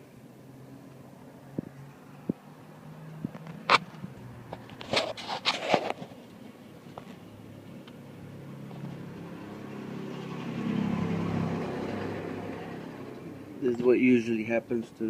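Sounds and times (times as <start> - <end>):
passing vehicle hum: 0.0 - 15.0.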